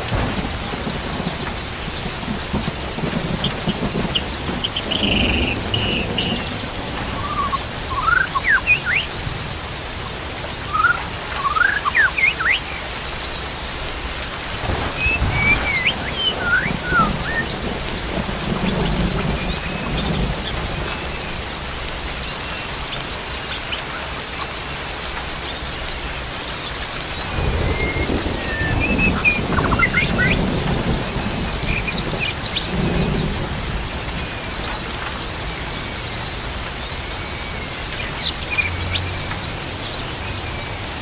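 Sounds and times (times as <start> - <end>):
rain hissing: 0.0 - 41.0
birds chirping and whistling: 0.2 - 9.9, 10.5 - 13.5, 14.5 - 41.0.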